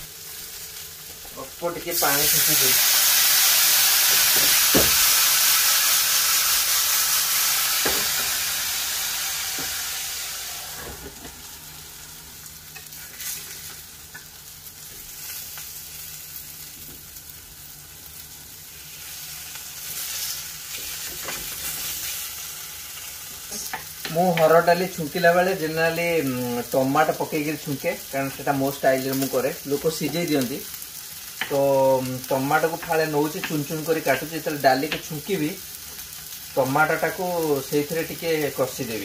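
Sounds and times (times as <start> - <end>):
vegetables sizzling in a pan: 0.0 - 39.0.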